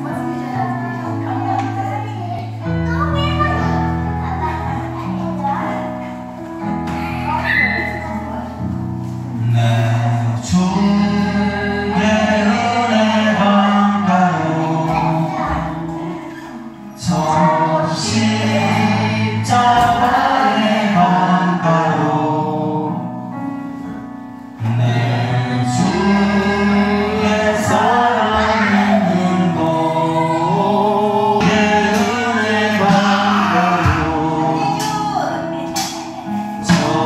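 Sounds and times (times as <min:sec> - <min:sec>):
choir singing worship music: 0:00.0 - 0:37.0.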